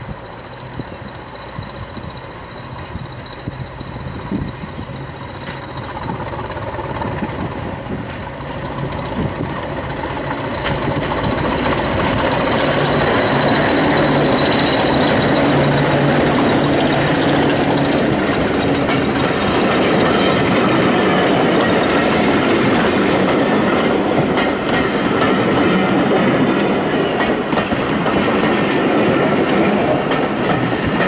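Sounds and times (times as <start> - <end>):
diesel locomotives passing: 0.0 - 31.0
wheels clicking over rail joints: 0.1 - 31.0.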